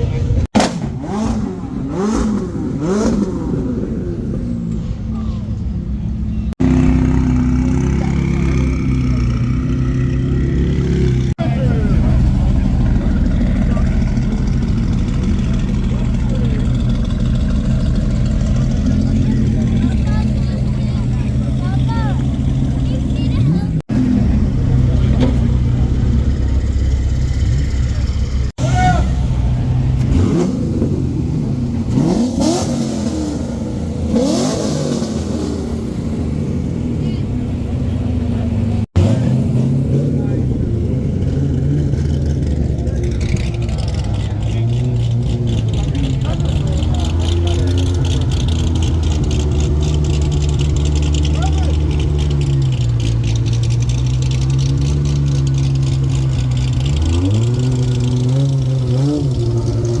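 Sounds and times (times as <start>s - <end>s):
steady engine drone: 0.0s - 60.0s
car engines accelerating past: 6.5s - 60.0s.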